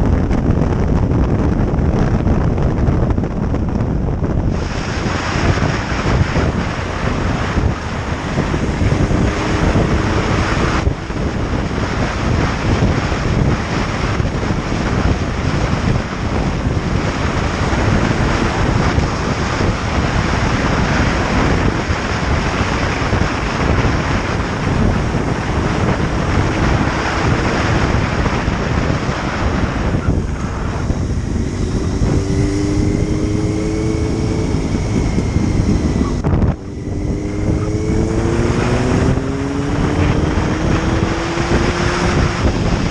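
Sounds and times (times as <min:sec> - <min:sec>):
motorcycle engine: 0:00.0 - 0:42.9
wind rushing over microphone: 0:00.0 - 0:42.9.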